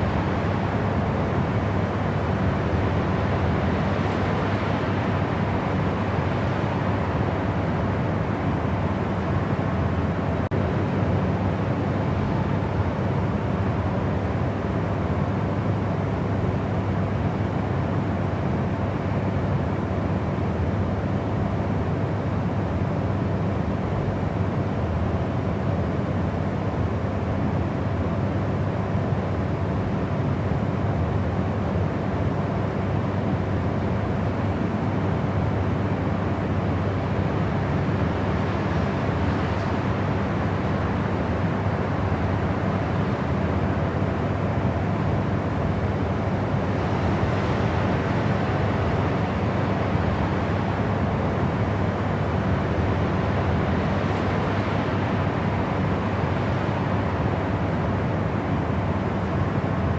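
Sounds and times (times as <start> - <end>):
faint steady hum: 0.0 - 59.9
low rumbling white noise: 0.0 - 59.9.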